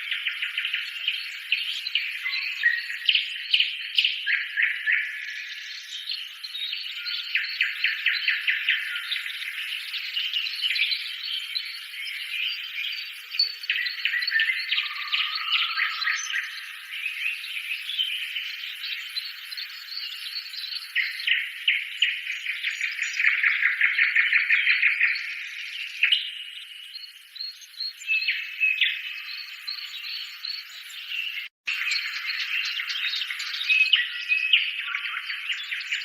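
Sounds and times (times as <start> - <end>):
small birds chirping and singing: 0.0 - 36.0.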